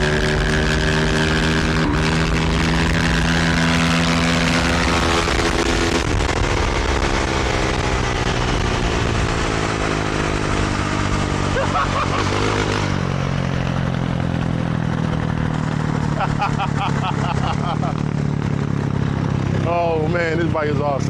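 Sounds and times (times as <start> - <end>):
motorbike engine drone: 0.0 - 21.0.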